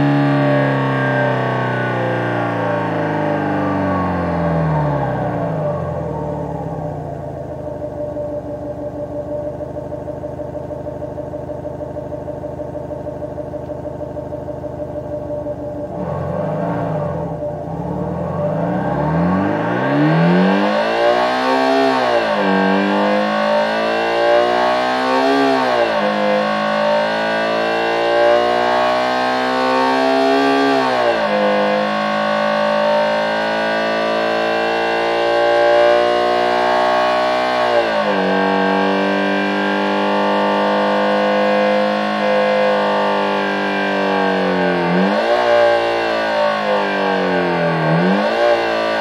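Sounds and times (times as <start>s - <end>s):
electronic engine sound at high revs: 0.0s - 49.0s.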